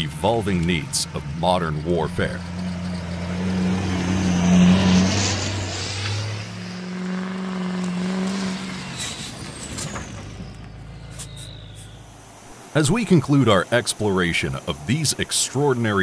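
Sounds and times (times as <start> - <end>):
diesel engine running: 0.0 - 16.0
tires on gravel: 0.0 - 16.0.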